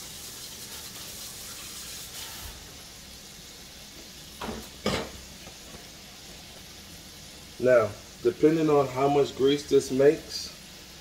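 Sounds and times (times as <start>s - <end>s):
meat patties sizzling in oil: 0.0s - 11.0s.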